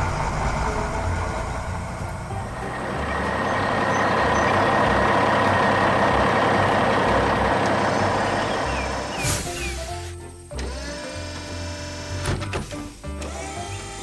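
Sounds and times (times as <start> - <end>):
truck engine rumble: 0.0 - 13.2.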